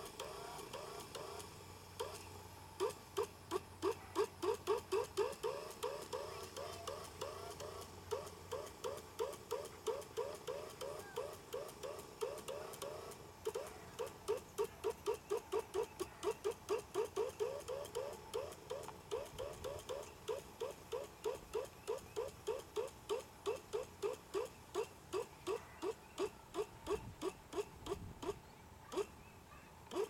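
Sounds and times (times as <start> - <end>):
dog yipping: 2.0 - 30.0.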